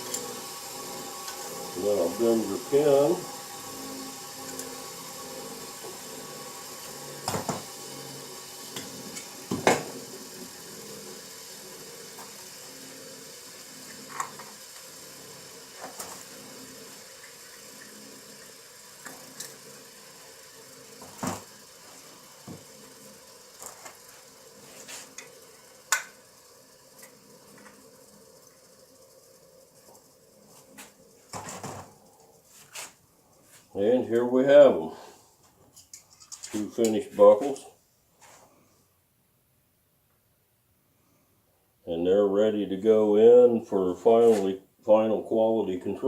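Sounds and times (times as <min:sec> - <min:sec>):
faint steady hiss: 0:08.7 - 0:46.0.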